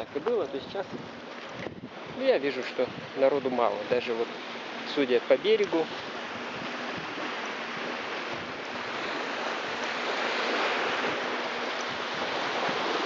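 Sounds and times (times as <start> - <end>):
small waves washing onto shore: 0.0 - 13.0.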